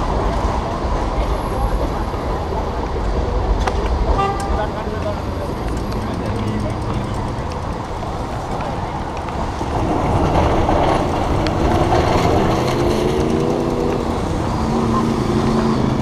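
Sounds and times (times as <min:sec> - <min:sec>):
motor vehicle engine hum: 0:00.0 - 0:16.0
wet road noise: 0:00.0 - 0:16.0
wind noise on camera: 0:00.0 - 0:16.0.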